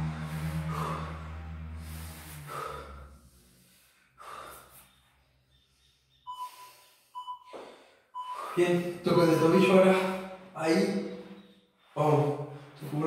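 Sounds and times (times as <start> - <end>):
man breathing hard: 0.0 - 5.8, 6.4 - 12.9
low background tone: 0.0 - 13.0.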